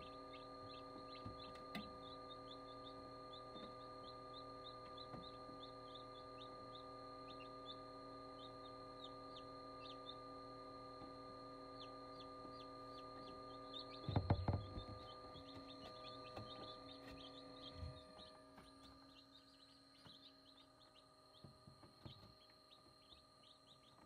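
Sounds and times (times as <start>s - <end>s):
chicks peeping: 0.0s - 10.2s, 11.7s - 24.0s
incubator hum: 0.0s - 24.0s.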